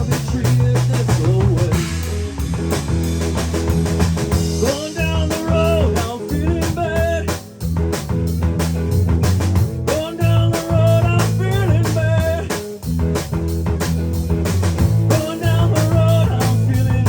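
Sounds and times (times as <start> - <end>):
blues-rock band playing: 0.0 - 17.0
electric guitar lead with bent notes: 0.0 - 17.0.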